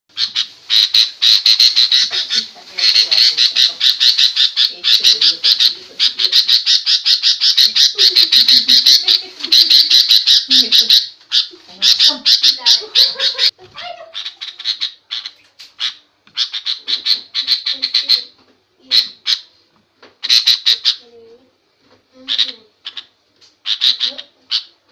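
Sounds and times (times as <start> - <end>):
bird harsh chattering call: 0.1 - 19.5, 20.2 - 21.1, 22.3 - 24.8.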